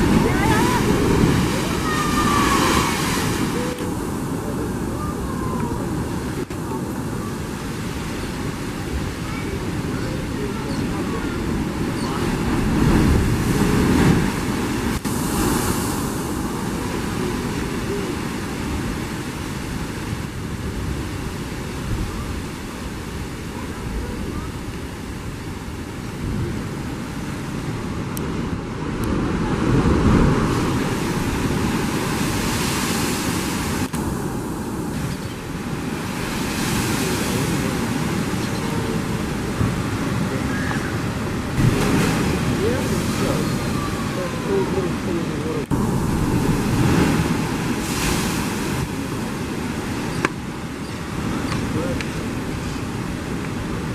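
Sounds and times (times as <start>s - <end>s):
ocean surf roaring: 0.0s - 53.9s.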